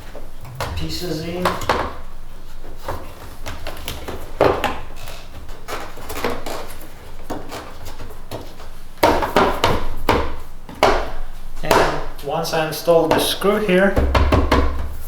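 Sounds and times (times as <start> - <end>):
plastic covers clicking and scraping: 0.0 - 12.2.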